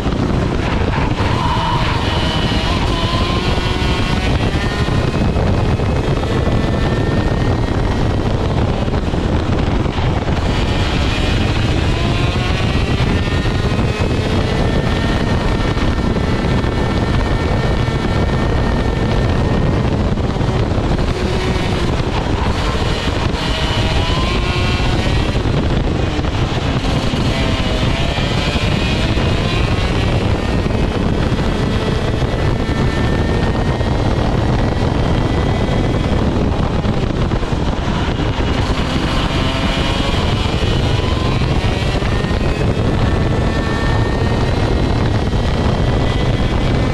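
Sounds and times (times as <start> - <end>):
kart engine revving: 0.0 - 46.9.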